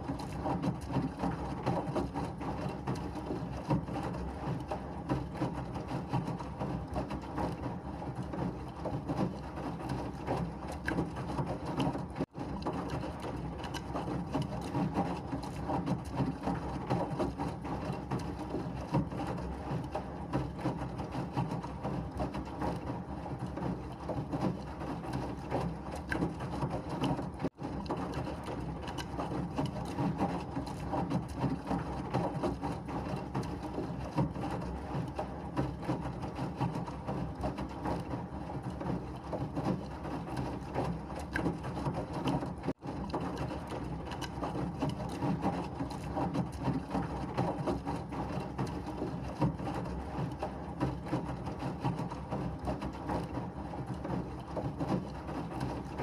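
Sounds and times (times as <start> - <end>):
washing machine churning: 0.0 - 56.0.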